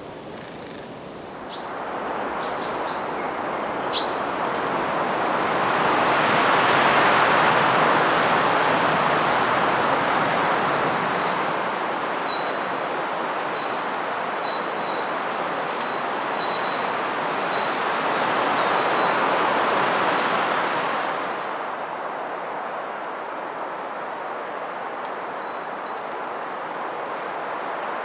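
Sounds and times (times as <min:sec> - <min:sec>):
wind gusting through trees: 0:00.0 - 0:28.0.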